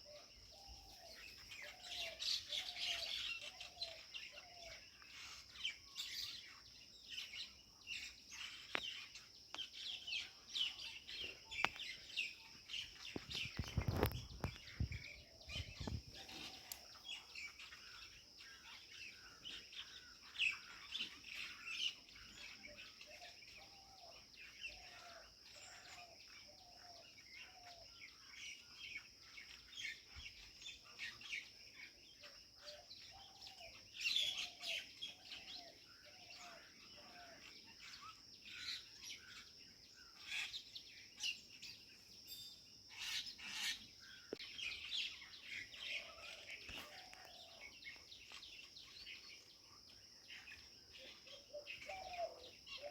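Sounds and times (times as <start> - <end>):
insect drone: 0.0 - 52.9
lower repeated bird calls: 0.0 - 52.9
small birds chirping: 0.0 - 52.9.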